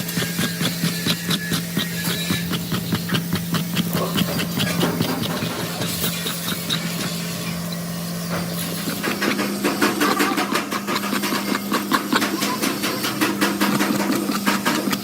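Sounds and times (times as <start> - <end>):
workshop machine humming: 0.0 - 15.0.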